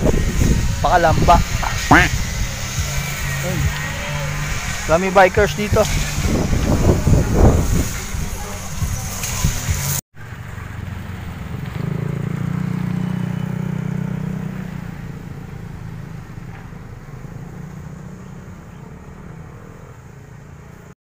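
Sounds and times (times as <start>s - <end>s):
vehicle engine running: 0.0s - 20.9s.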